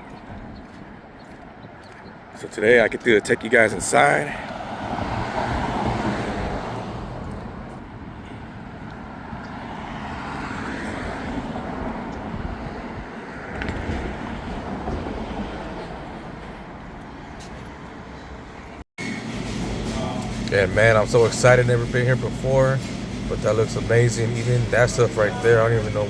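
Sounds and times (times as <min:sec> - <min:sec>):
cars passing on road: 0:00.0 - 0:26.0.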